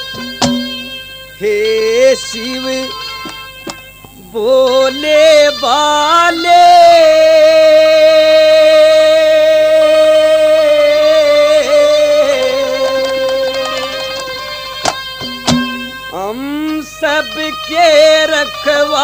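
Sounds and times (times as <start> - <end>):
man singing: 1.4 - 14.5, 15.9 - 19.0.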